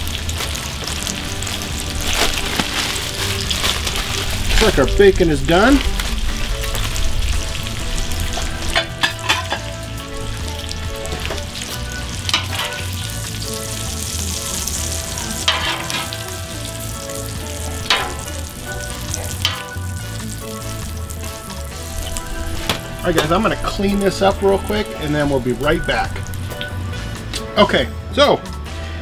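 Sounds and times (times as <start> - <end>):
bacon sizzling on a griddle: 0.0 - 27.1.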